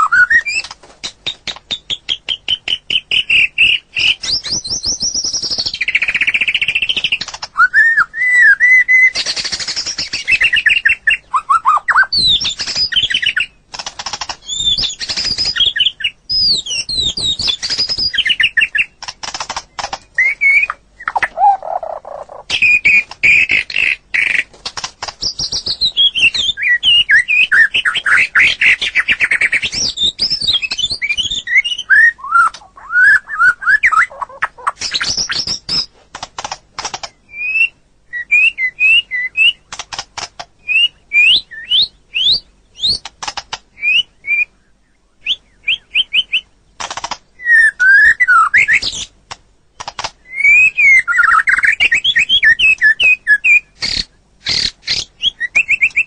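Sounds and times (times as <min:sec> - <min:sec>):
bird singing whistled song: 0:00.0 - 0:13.6, 0:14.4 - 0:19.0, 0:19.7 - 0:24.5, 0:25.2 - 0:35.9, 0:37.1 - 0:39.8, 0:40.6 - 0:43.1, 0:43.8 - 0:46.6, 0:47.4 - 0:49.1, 0:50.2 - 0:56.0.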